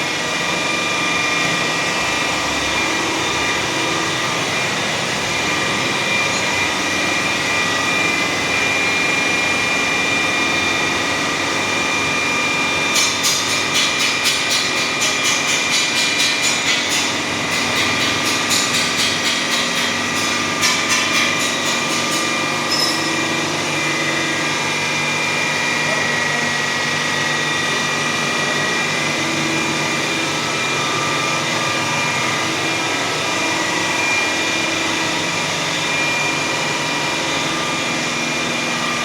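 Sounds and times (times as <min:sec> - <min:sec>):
boring machine humming and whining: 0:00.0 - 0:39.0.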